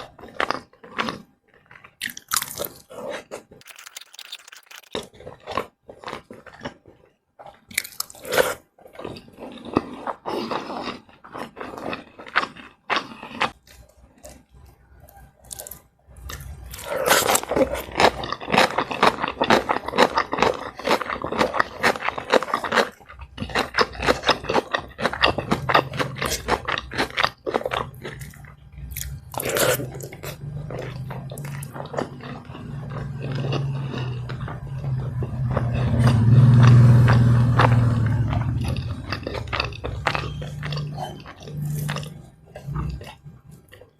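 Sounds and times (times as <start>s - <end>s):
biting and chewing food: 0.0s - 43.9s.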